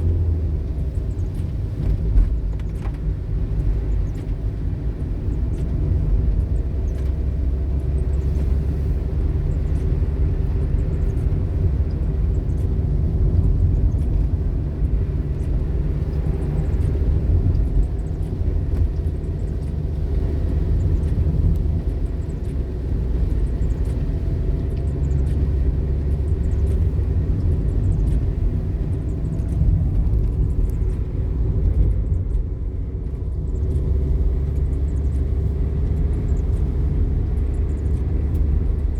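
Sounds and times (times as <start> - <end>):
car engine and tyres rumbling: 0.0 - 38.9
faint engine hum: 0.0 - 38.9.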